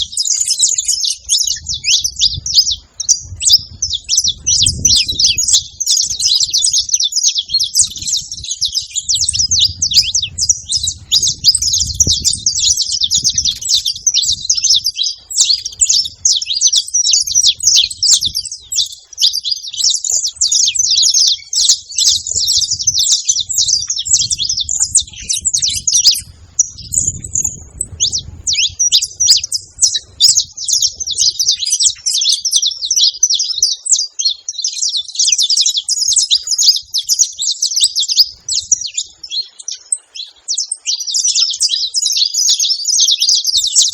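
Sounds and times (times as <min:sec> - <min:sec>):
flock of finches chirping: 0:00.0 - 0:43.9.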